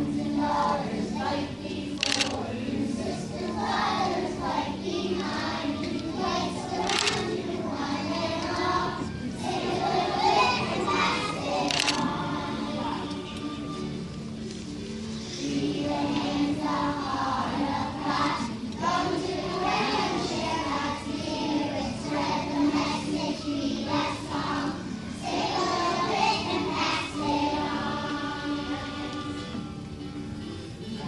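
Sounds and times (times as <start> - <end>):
children singing together: 0.0 - 14.0, 15.2 - 30.2
musical accompaniment: 0.0 - 31.0.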